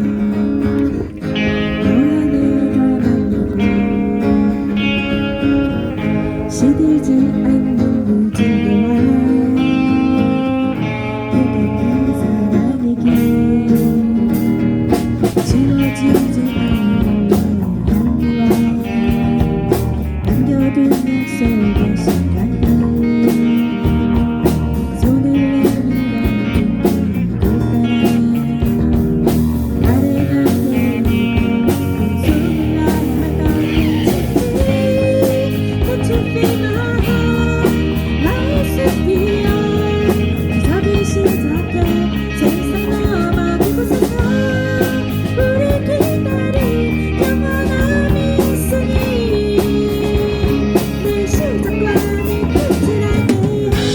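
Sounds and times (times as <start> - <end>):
bass guitar: 0.0 - 53.9
drums: 0.0 - 53.9
lead guitar with bending notes: 0.0 - 53.9.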